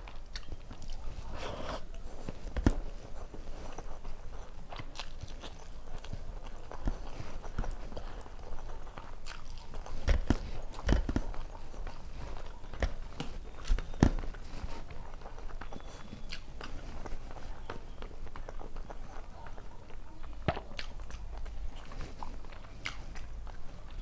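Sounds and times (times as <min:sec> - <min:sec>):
close chewing with mouth clicks: 0:00.0 - 0:24.0
lip smacks: 0:00.0 - 0:24.0.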